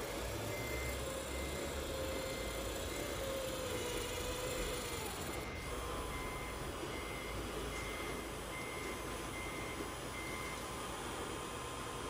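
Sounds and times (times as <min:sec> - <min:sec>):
reversing beeper beeps: 0:00.0 - 0:10.8
steady motor hiss: 0:00.0 - 0:12.0.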